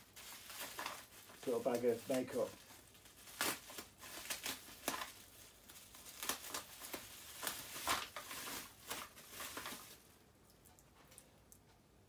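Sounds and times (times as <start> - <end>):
packaging rustling and crinkling: 0.0 - 10.2.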